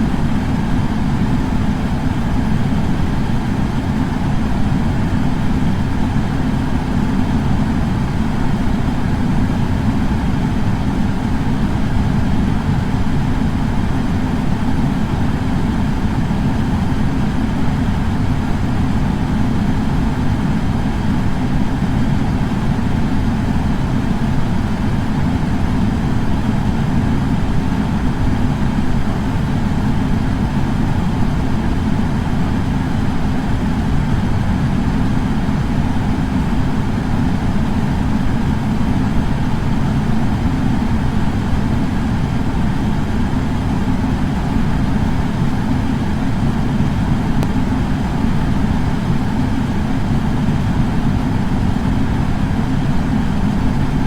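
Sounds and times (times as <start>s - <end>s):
air purifier fan running: 0.0s - 54.0s.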